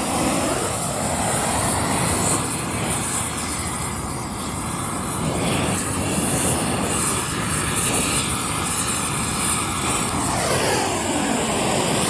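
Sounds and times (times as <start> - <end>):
propane torch roaring: 0.0 - 12.0.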